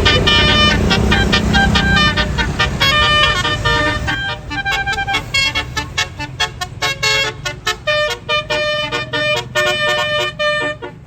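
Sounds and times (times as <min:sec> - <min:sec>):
bus engine running: 0:00.0 - 0:11.0
bus horn playing a tune: 0:00.0 - 0:11.0.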